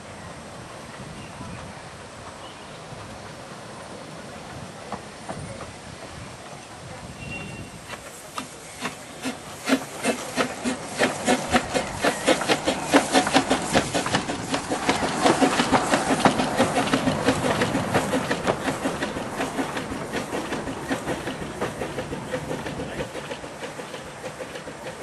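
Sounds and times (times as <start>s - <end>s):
small train passing clicking: 0.0s - 25.0s.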